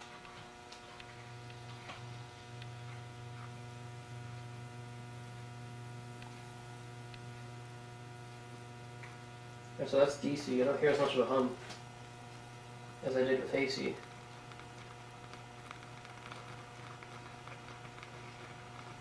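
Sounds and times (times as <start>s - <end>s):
low electrical hum: 0.0s - 19.0s
small ticks and crackles: 0.0s - 19.0s
water boiling: 0.0s - 19.0s.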